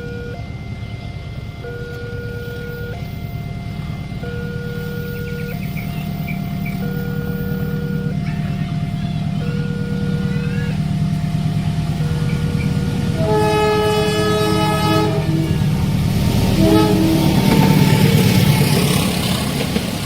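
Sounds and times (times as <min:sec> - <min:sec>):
locomotive horn: 0:00.0 - 0:19.8
two-tone crossing alarm: 0:00.0 - 0:19.8
locomotive engine rumbling: 0:00.0 - 0:20.0.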